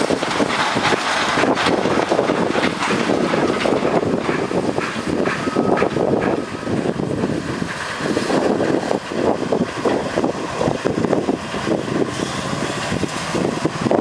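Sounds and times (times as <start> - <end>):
train wagons rattling over rails: 0.0 - 14.0.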